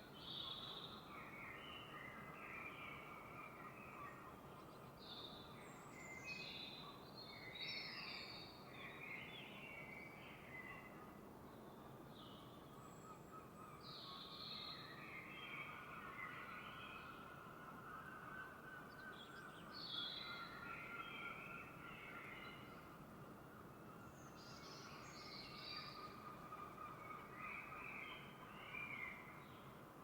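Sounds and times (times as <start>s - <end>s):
soft steady background hiss: 0.0s - 30.0s
songbirds chirping and warbling: 0.1s - 30.0s.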